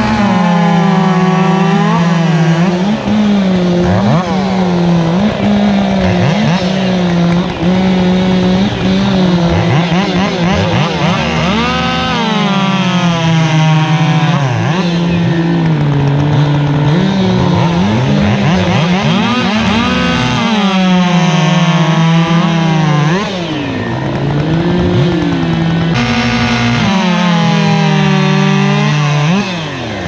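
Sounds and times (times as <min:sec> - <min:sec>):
racing chainsaws at full throttle: 0:00.0 - 0:30.0.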